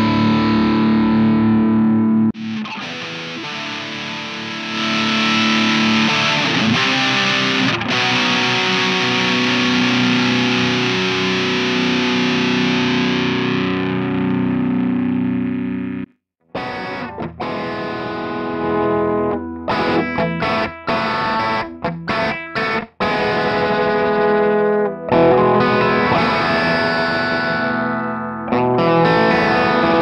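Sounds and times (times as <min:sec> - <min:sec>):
distorted electric guitar chords: 0:00.0 - 0:30.0.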